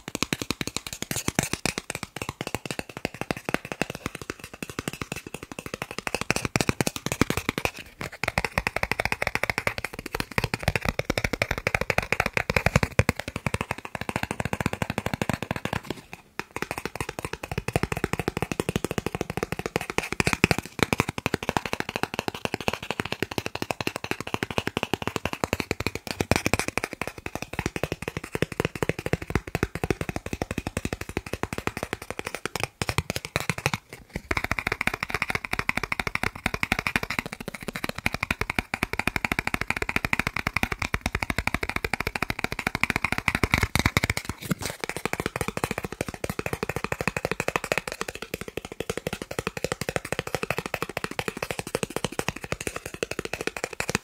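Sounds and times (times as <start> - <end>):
fingers tapping on plastic card: 0.0 - 54.0.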